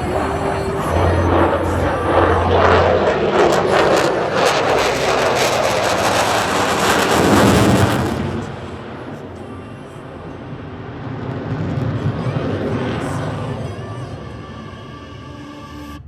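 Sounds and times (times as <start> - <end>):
fighter jet passing: 0.0 - 16.0.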